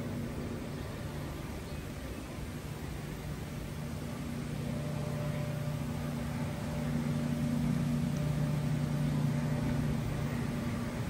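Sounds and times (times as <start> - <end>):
background hiss: 0.0 - 11.0
distant engine hum: 0.0 - 11.0.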